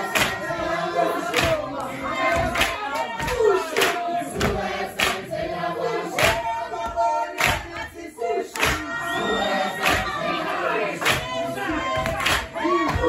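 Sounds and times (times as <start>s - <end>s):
group chanting: 0.0s - 13.0s.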